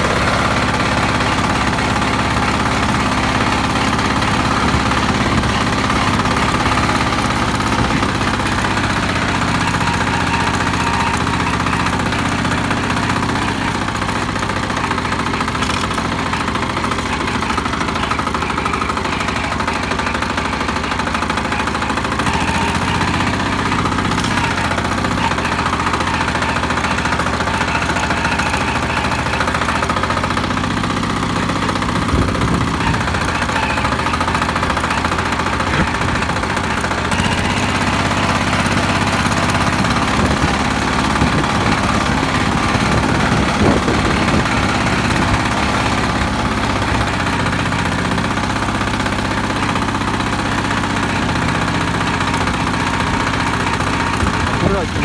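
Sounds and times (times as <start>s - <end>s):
walk-behind tractor engine knocking: 0.0s - 55.0s.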